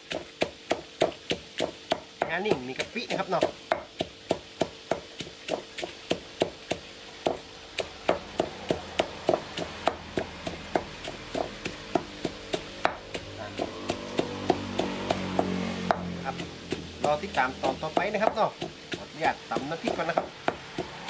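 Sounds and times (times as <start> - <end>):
stone pestle pounding in mortar: 0.0 - 21.0.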